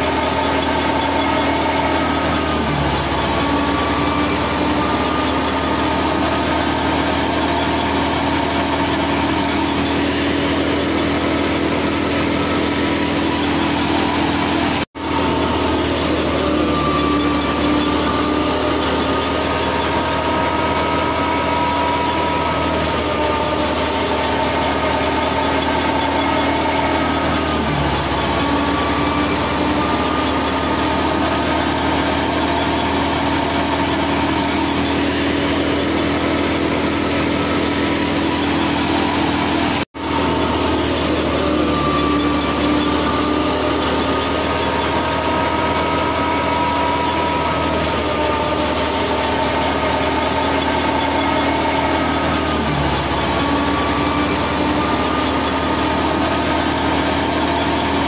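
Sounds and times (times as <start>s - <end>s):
small motor droning with whine: 0.0s - 58.0s.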